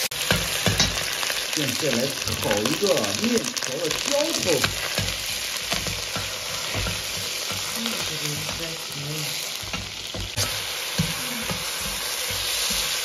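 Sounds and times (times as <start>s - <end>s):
aromatics sizzling in hot oil: 0.0s - 13.0s.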